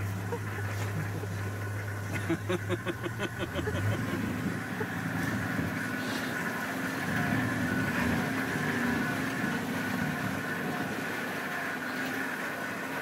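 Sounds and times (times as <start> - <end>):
vehicle driving through water: 0.0 - 13.0
vehicle engine running: 0.0 - 13.0.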